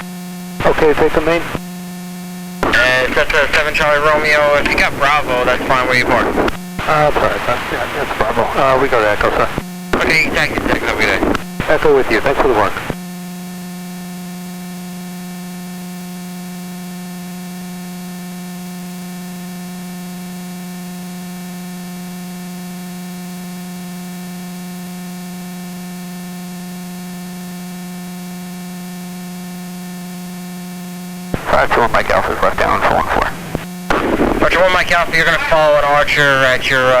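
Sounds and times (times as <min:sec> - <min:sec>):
buzzing electrical hum with hiss: 0:00.0 - 0:37.0.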